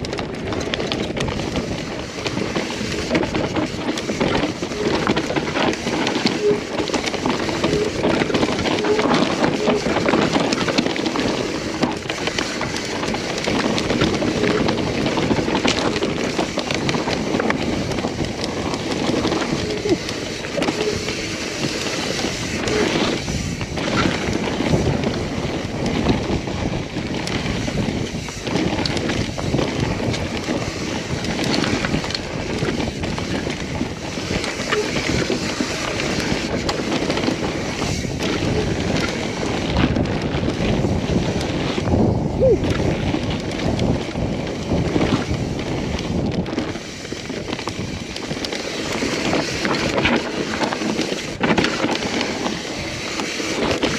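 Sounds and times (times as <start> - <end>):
bike chain and frame clattering: 0.0 - 53.9
tyres rolling over dirt: 0.0 - 53.9
wind buffeting microphone: 0.0 - 53.9.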